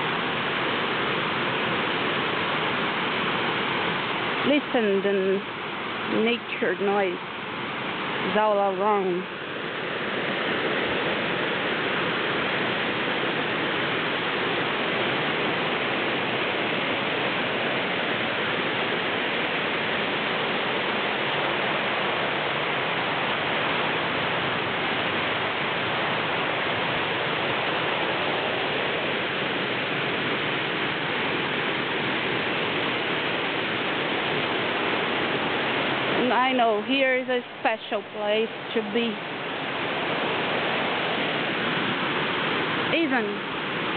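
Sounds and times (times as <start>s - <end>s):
waterfall and river rushing: 0.0s - 43.9s.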